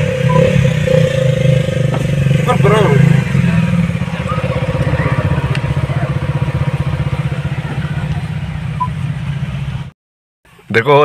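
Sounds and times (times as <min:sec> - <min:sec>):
vehicle engine idling: 0:00.0 - 0:09.9.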